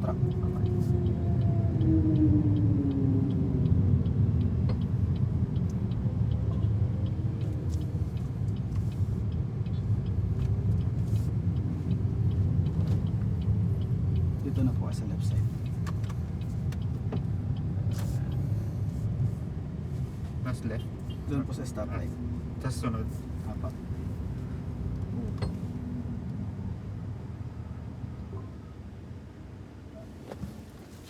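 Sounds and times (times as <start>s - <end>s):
road noise inside car: 0.0s - 31.0s.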